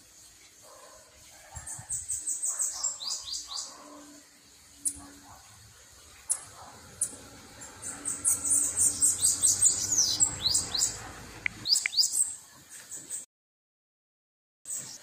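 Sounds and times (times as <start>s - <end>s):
bird calls: 0.7s - 13.2s.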